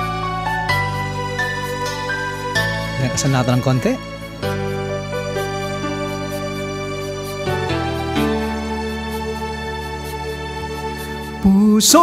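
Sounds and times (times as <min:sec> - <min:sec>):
sustained backing chords: 0:00.0 - 0:12.0.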